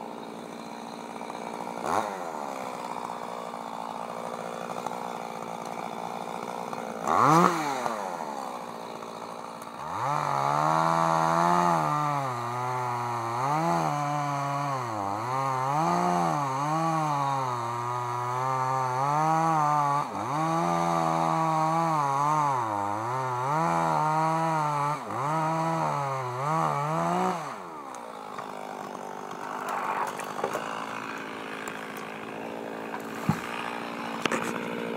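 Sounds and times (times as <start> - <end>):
small engine revving: 0.9 - 3.3, 4.6 - 34.9.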